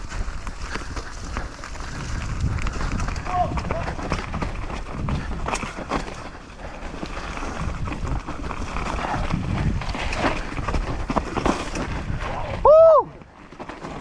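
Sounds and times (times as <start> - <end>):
wind rumbling on microphone: 0.0 - 13.5
bike rattling over bumps: 0.0 - 14.0
bike tyres on dirt: 0.0 - 14.0.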